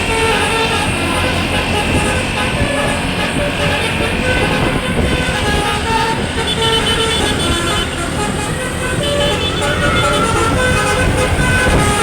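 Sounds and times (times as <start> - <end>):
bus multi-tone horn tune: 0.0 - 12.0
low vehicle and road noise: 0.0 - 12.0.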